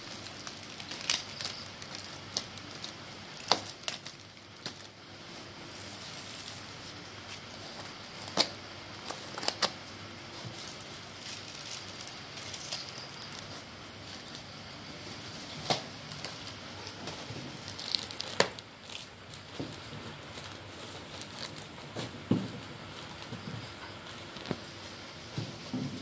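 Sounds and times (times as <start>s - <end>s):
plastic bags crinkling: 0.0s - 26.0s.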